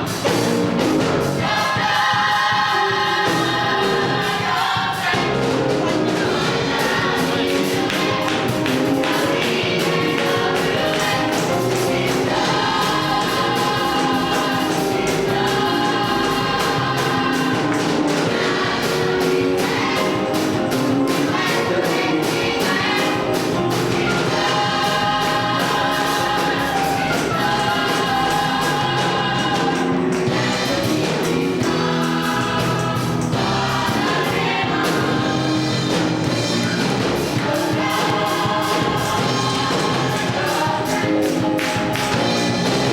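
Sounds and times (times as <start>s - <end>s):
band accompaniment: 0.0s - 42.9s
choir singing: 0.0s - 42.9s.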